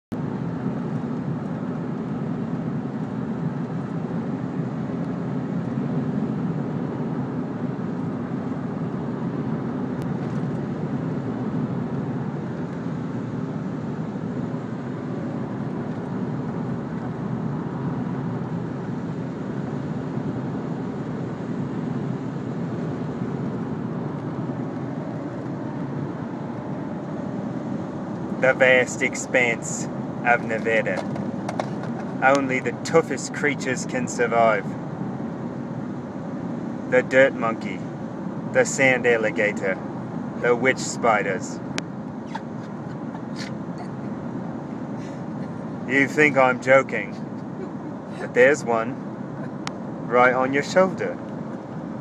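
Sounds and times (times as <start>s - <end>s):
car road and engine rumble: 0.1s - 52.0s.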